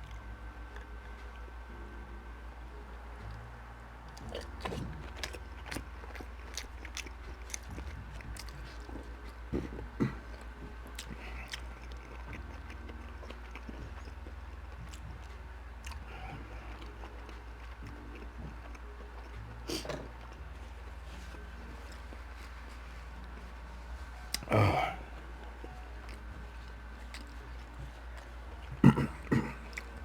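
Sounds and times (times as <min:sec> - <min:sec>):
low hum: 0:00.0 - 0:30.0
person chewing food: 0:04.0 - 0:30.0.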